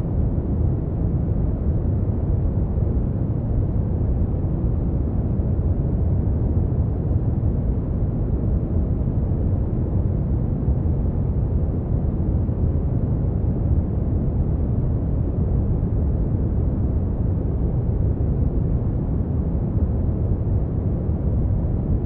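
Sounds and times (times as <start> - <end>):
deep rumbling brown noise: 0.0 - 22.0.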